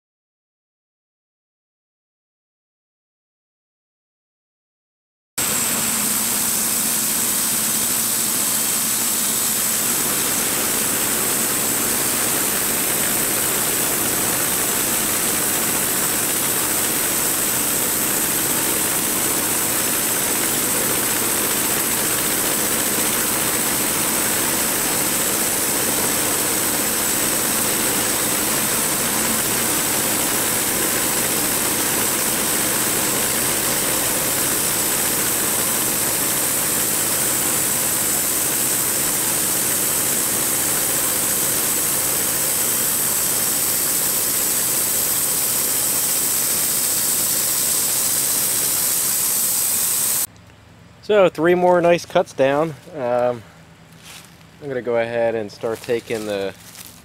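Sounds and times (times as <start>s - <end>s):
bandsaw mill engine cutting log: 5.4s - 50.3s, 54.8s - 57.0s.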